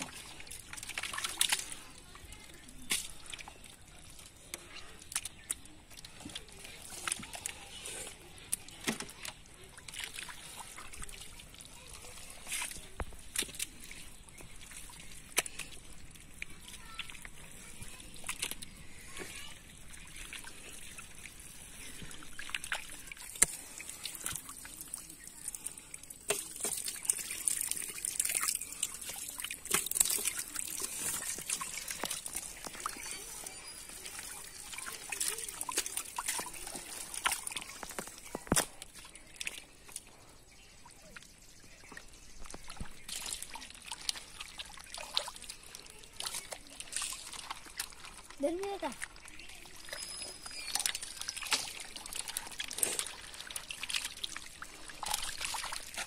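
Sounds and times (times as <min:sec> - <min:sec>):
fish splashing in muddy water: 0:00.0 - 0:56.0
small clicks and trickles: 0:00.0 - 0:56.0.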